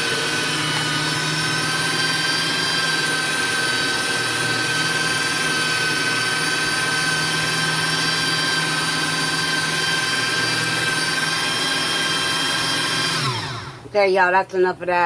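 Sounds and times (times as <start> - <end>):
electric meat grinder whine: 0.0 - 13.9.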